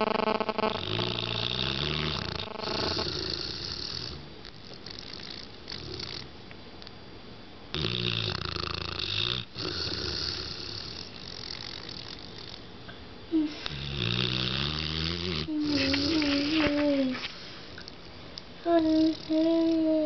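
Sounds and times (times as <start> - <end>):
dog snoring: 0.0 - 6.4, 7.7 - 12.7, 13.3 - 17.5, 18.7 - 20.0.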